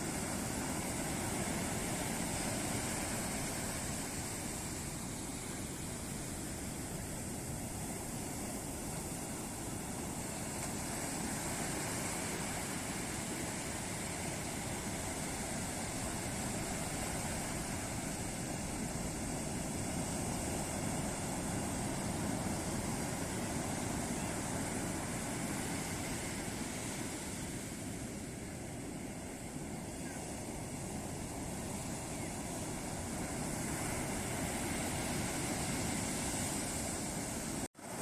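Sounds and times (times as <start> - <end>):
ocean waves breaking on beach: 0.0 - 38.0.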